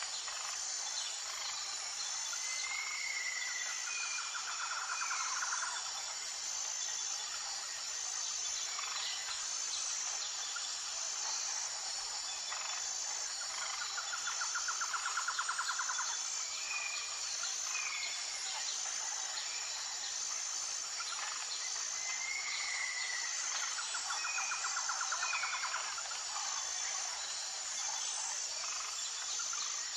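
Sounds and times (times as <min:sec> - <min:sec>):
high-pitched insect drone: 0:00.0 - 0:29.9.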